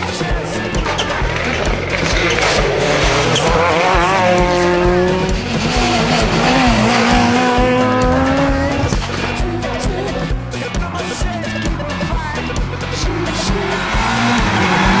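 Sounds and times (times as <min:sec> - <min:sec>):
music with a steady beat: 0:00.0 - 0:15.0
rally car engines at high revs: 0:00.0 - 0:15.0.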